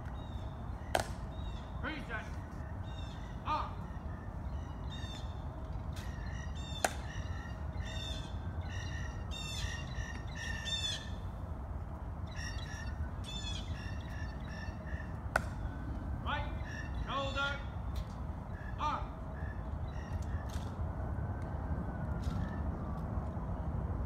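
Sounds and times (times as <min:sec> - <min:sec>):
birds calling harshly: 0:00.0 - 0:11.4, 0:12.1 - 0:20.8.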